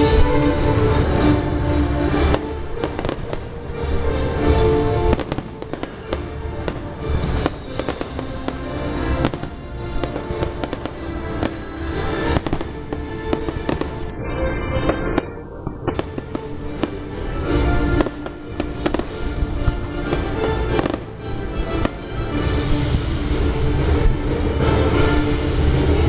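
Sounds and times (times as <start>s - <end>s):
fireworks bursting and crackling: 0.0s - 26.0s
show music: 0.0s - 26.0s.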